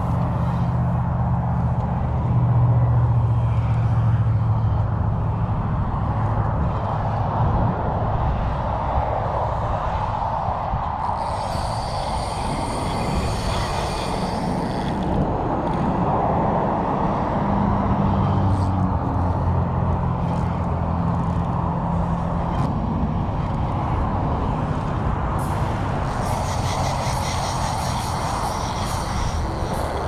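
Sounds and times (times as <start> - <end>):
road traffic: 0.0 - 30.0
vehicle engine humming: 0.0 - 30.0.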